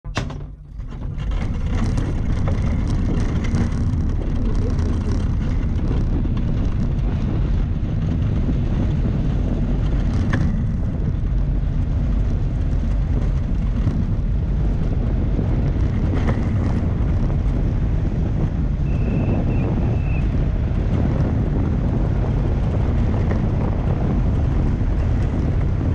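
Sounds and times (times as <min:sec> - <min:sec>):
wind over microphone: 0:00.0 - 0:25.9
cart wheels rolling on tarmac: 0:00.1 - 0:25.9.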